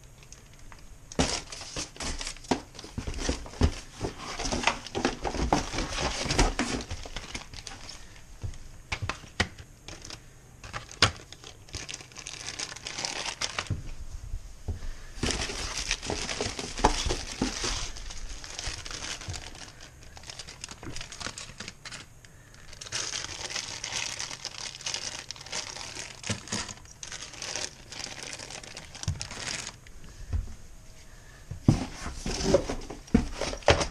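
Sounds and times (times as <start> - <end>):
packaging crinkling and rustling: 0.0 - 14.0, 15.0 - 30.2, 31.7 - 33.9.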